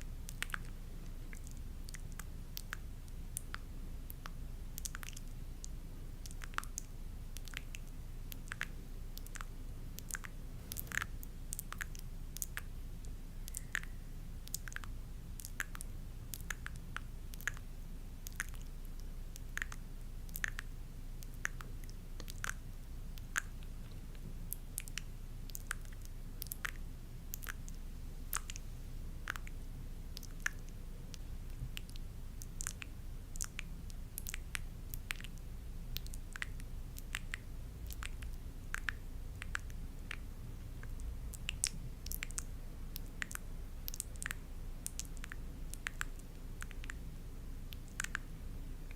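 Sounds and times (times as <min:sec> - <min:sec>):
soft wet clicks and squishes: 0:00.0 - 0:48.9
steady low hum: 0:00.0 - 0:48.9.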